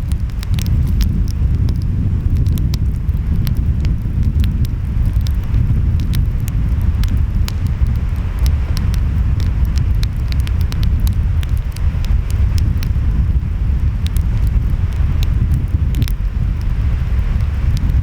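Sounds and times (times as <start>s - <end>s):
wind: 0.0s - 18.0s
wood fire crackling: 0.0s - 18.0s.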